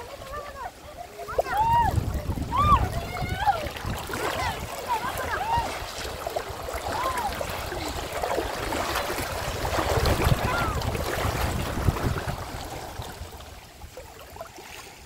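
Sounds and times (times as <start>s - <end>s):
people wading through water: 0.0s - 15.0s.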